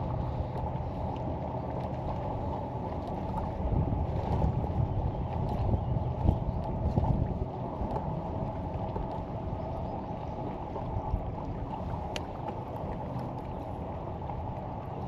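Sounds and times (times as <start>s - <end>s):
water around a kayak: 0.0s - 15.0s
wind rumble: 0.0s - 15.0s.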